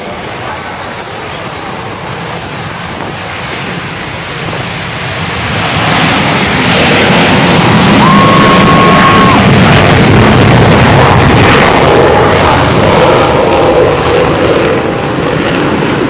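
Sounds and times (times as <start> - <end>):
distant jet engines: 0.0 - 16.0
wind buffeting microphone: 0.0 - 16.0.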